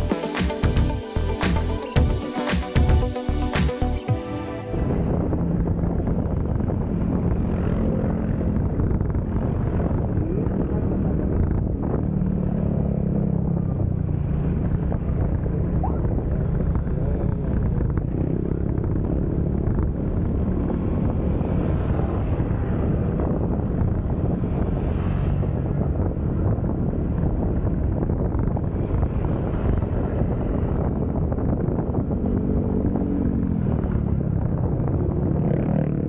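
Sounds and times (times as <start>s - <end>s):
wind and road noise: 0.0s - 36.0s.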